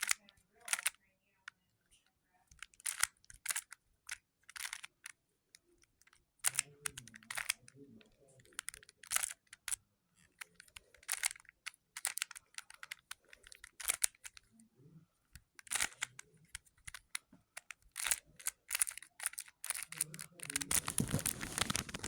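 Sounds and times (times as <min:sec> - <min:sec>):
plastic puzzle cube clicking: 0:00.0 - 0:01.0, 0:02.5 - 0:05.2, 0:05.8 - 0:07.8, 0:08.4 - 0:14.5, 0:15.4 - 0:22.0.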